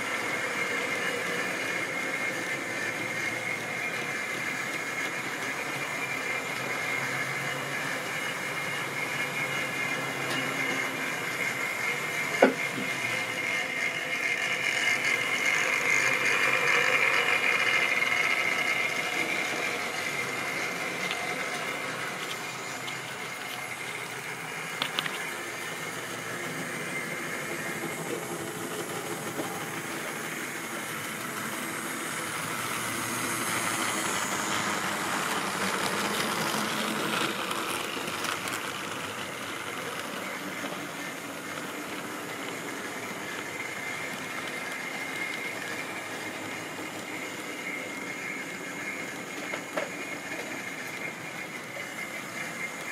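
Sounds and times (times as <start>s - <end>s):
model train motor whine: 0.0s - 52.9s
wheels clicking over rail joints: 0.0s - 52.9s.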